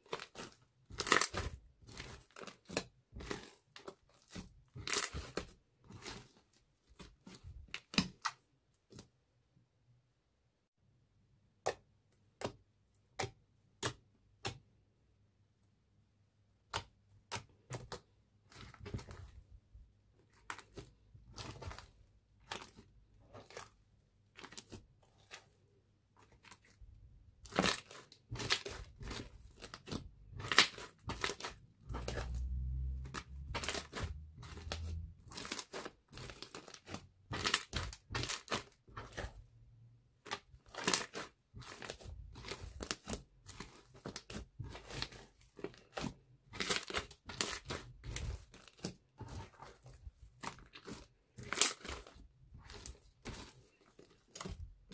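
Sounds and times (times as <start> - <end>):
slime kneaded by hand: 0.0 - 9.5, 11.4 - 54.9.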